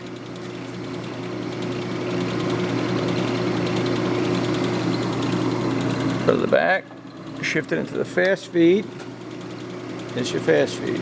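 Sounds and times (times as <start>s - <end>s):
brake lathe motor humming: 0.0s - 11.0s.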